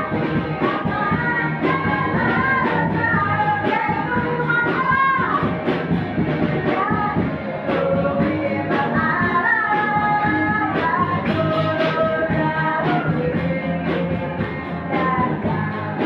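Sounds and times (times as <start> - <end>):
song with sung melody and beat: 0.0 - 16.0.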